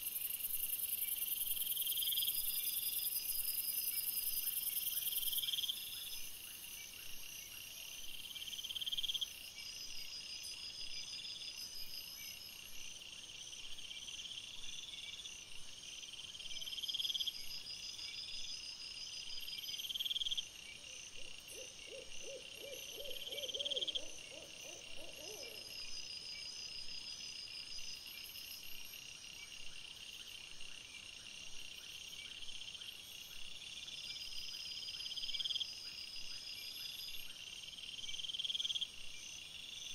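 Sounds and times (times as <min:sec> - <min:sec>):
insect hum: 0:00.0 - 0:39.9
insects chirping: 0:00.0 - 0:39.9
low pulsed insect calls: 0:00.0 - 0:39.9.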